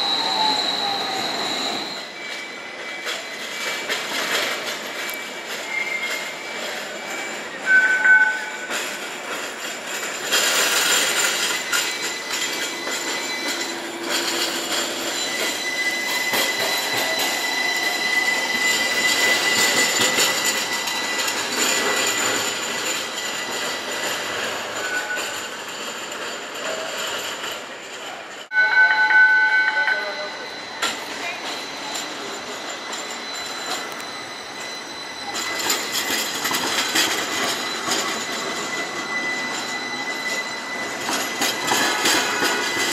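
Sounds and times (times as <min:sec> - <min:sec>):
streetcar wheels squealing on rails: 0:00.0 - 0:42.9.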